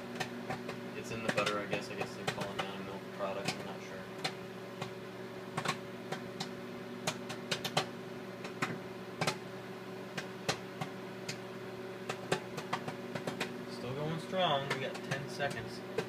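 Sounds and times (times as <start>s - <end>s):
microwave oven hum: 0.0s - 16.0s
popcorn popping: 0.0s - 16.0s.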